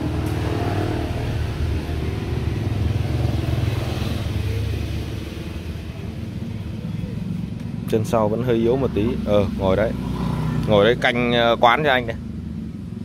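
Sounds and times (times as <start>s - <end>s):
motorbike engine droning: 0.0s - 13.0s.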